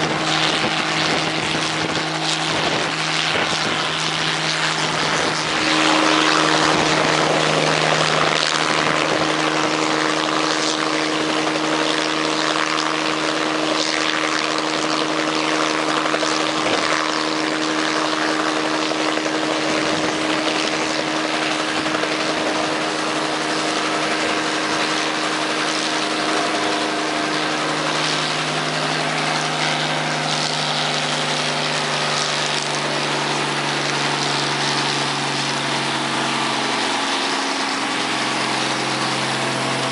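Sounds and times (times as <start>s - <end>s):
helicopter engine and rotors running: 0.0s - 39.9s.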